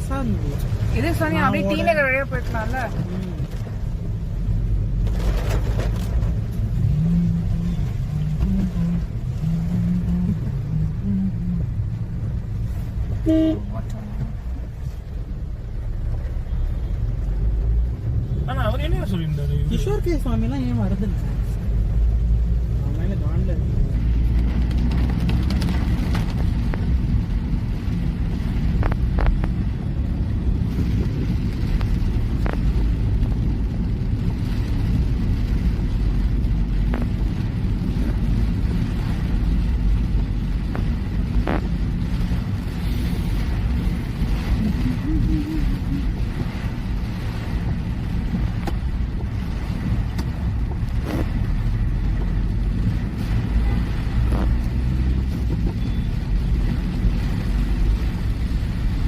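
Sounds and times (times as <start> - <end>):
car driving rumble inside cabin: 0.0 - 59.0.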